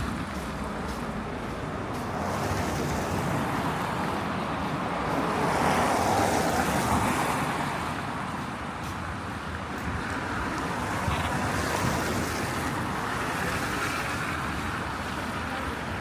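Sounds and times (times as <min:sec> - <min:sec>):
car passing on snowy road: 0:00.0 - 0:16.0
city traffic: 0:00.0 - 0:16.0.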